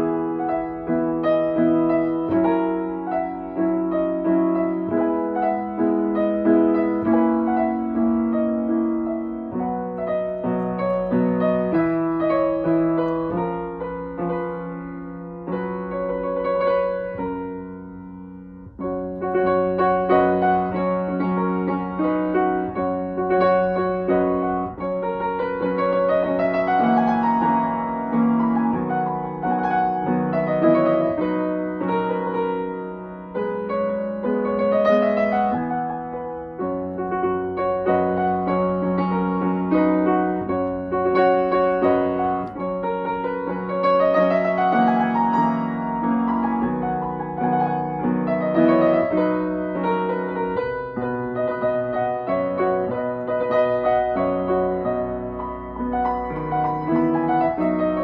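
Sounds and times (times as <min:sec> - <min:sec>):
grand piano playing slow chords: 0:00.0 - 0:58.0.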